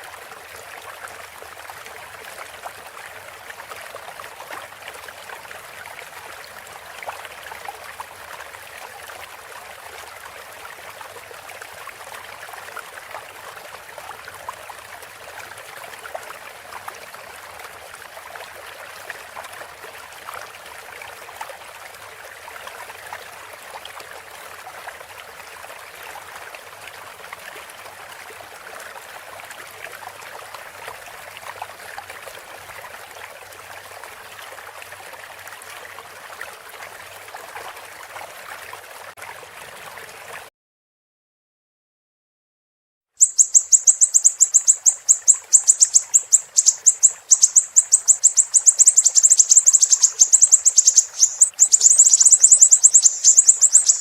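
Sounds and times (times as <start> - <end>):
trickling stream: 0.0 - 40.5, 43.2 - 54.0.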